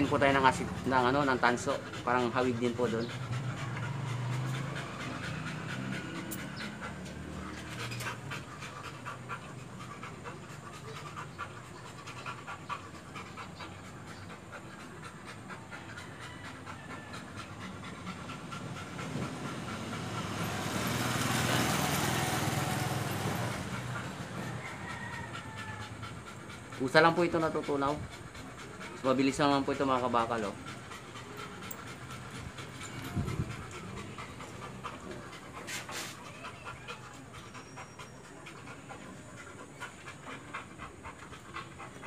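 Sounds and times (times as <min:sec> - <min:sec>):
dog panting: 0:00.0 - 0:42.0.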